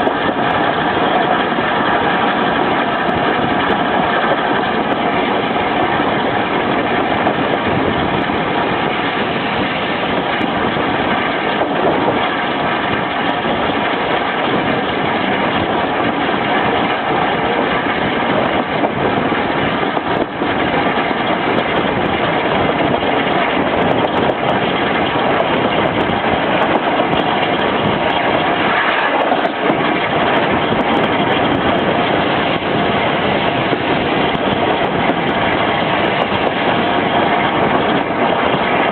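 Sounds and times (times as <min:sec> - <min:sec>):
train rumbling on rails: 0:00.0 - 0:38.9.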